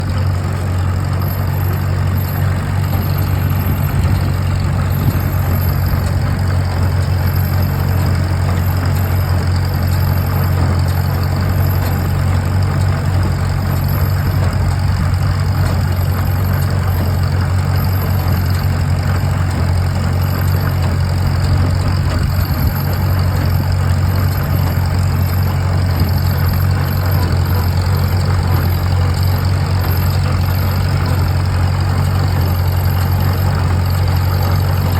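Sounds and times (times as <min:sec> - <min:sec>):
hay baler working: 0:00.0 - 0:34.9
tractor engine running: 0:00.0 - 0:34.9.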